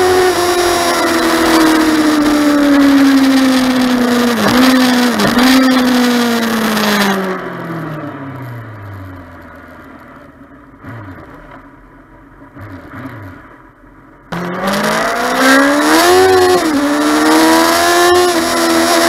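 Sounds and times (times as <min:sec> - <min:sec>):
motorcycle engine decelerating: 0:00.0 - 0:11.7, 0:14.3 - 0:19.0.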